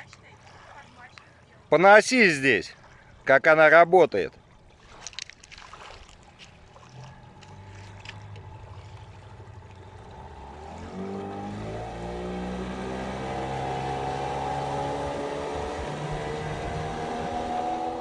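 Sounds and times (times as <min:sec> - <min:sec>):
outboard motor running: 0:00.0 - 0:03.3, 0:04.3 - 0:18.0.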